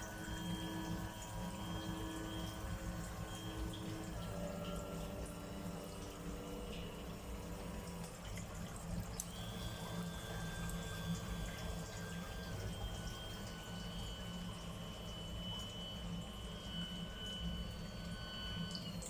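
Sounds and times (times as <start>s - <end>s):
water running and bubbling: 0.0s - 19.0s.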